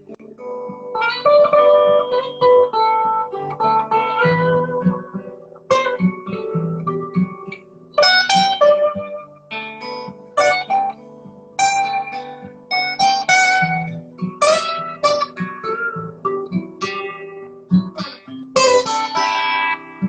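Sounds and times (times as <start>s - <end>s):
guitar playing: 0.0s - 20.0s.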